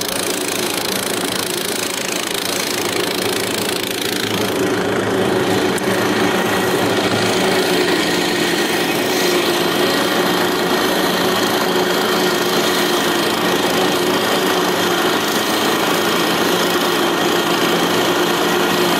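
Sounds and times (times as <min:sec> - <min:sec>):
small engine buzzing drone: 0:00.0 - 0:18.9.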